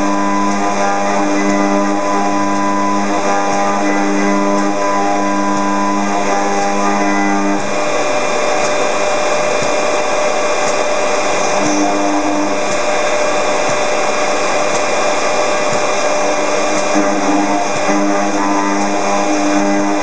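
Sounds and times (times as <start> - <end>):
milling spindle cutting metal: 0.0 - 20.0.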